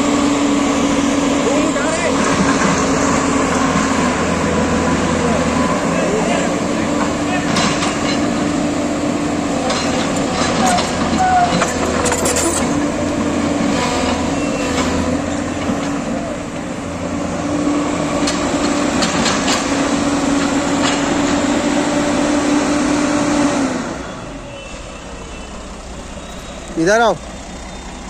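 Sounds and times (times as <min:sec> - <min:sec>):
excavator engine and hydraulics: 0:00.0 - 0:28.0.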